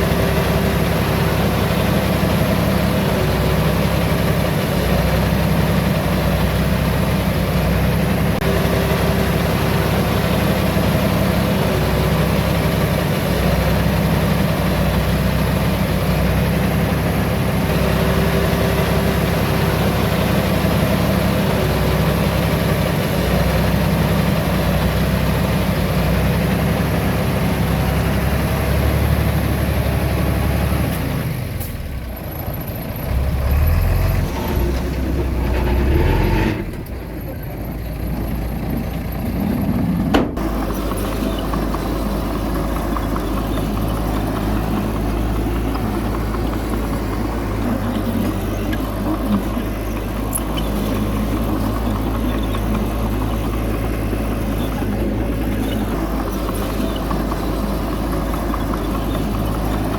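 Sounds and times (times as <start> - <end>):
heavy diesel machinery engines running: 0.0 - 59.9.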